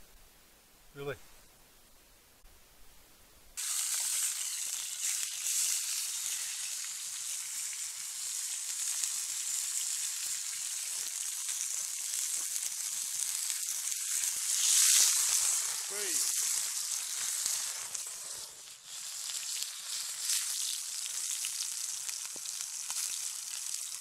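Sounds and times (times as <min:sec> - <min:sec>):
meat sizzling in a frying pan: 0:03.6 - 0:24.0.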